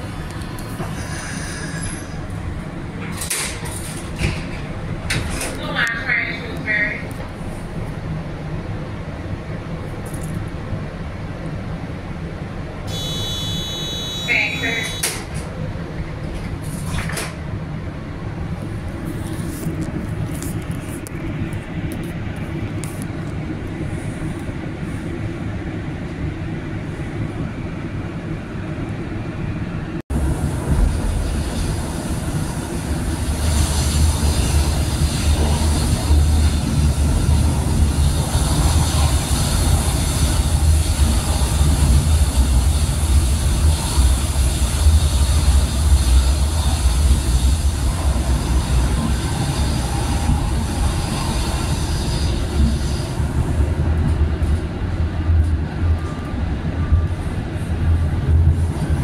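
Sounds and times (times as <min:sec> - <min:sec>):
train car humming: 0:00.0 - 0:59.0
train rumbling along track: 0:00.0 - 0:59.0.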